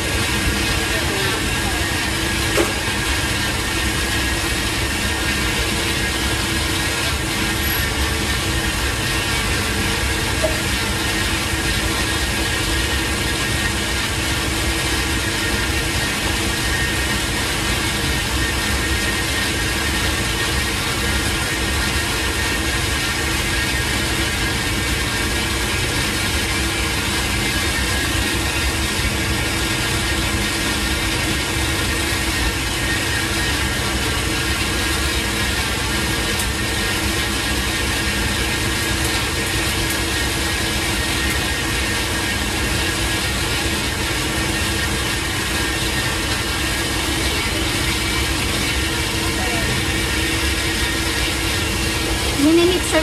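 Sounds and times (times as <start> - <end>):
kitchen machine hum: 0.0 - 53.0.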